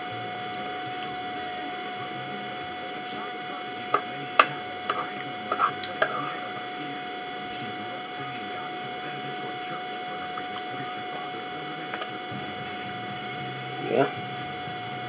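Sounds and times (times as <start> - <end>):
electrical hum with high whine: 0.0 - 15.0.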